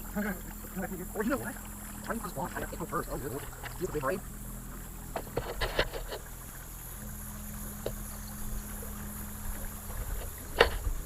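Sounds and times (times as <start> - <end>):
boat steady low hum: 0.0 - 11.0
faint steady tone: 0.0 - 11.0.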